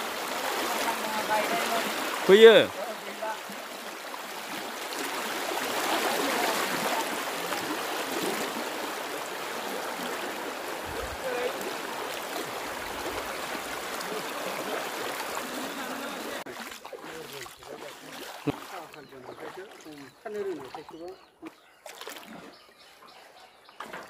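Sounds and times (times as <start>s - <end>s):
floodwater rushing: 0.0s - 21.1s.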